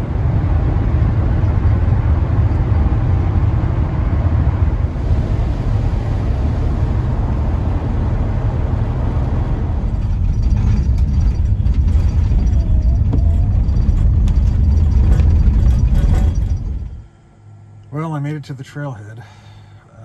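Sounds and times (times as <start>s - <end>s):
car road and engine rumble: 0.0s - 17.2s.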